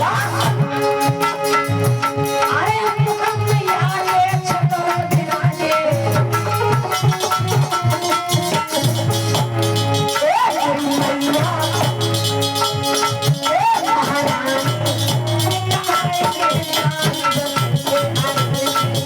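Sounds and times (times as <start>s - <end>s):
hand drum beating: 0.0s - 19.0s.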